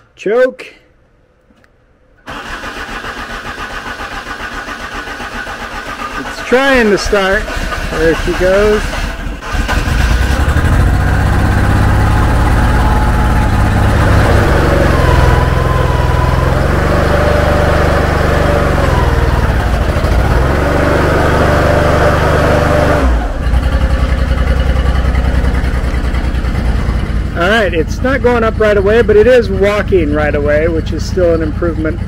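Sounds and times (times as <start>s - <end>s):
gas engine running: 2.3s - 32.0s.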